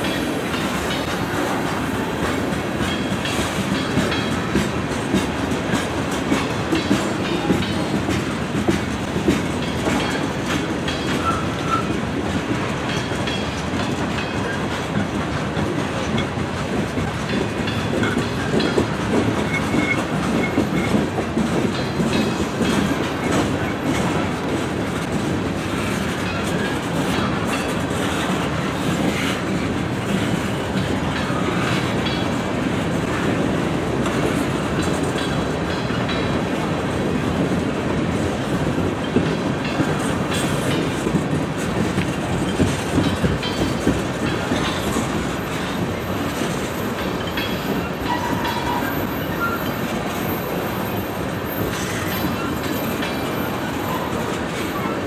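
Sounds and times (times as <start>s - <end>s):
freight train rolling past: 0.0s - 55.0s
wheels clicking over rail joints: 0.0s - 55.0s.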